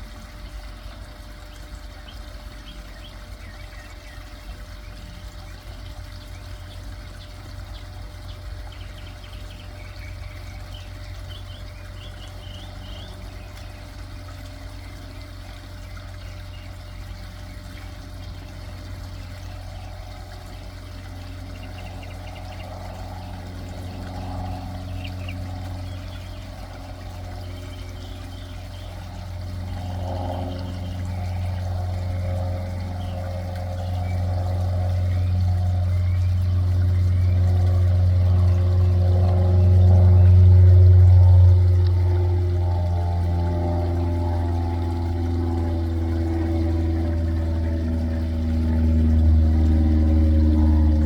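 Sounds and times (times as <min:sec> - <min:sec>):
propeller plane engine drone: 0:00.0 - 0:51.0
small waterfall trickling and splashing: 0:00.0 - 0:51.0
songbirds chirping: 0:00.2 - 0:51.0.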